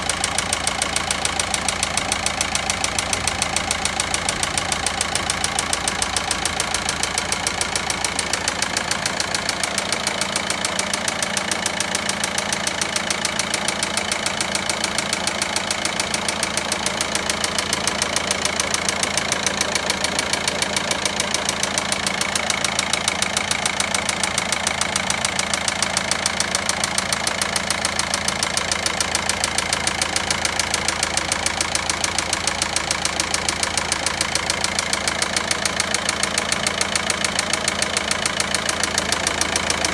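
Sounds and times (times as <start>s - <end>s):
diesel engine idling with knocking: 0.0s - 39.9s.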